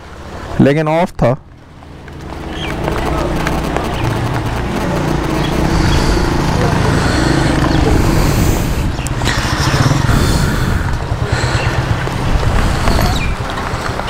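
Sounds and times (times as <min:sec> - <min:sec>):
motorcycle engine idling: 0:01.5 - 0:14.0.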